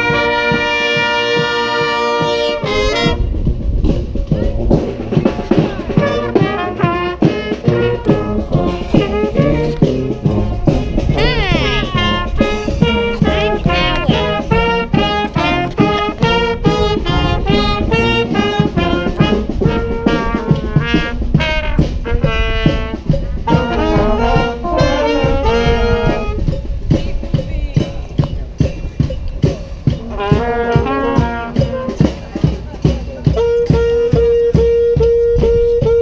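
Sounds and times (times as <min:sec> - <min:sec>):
brass horns playing in harmony: 0:00.0 - 0:03.5, 0:04.6 - 0:26.5, 0:30.0 - 0:32.3, 0:33.2 - 0:36.0
drum beat: 0:00.0 - 0:36.0.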